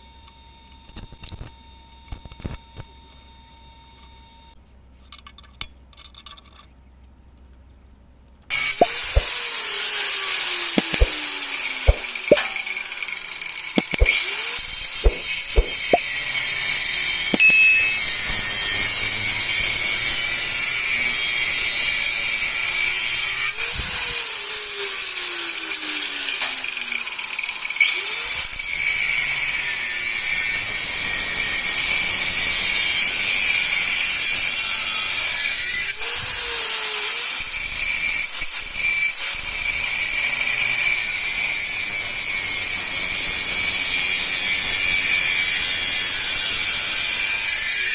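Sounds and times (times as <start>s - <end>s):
power tool cutting wood: 8.5s - 47.9s.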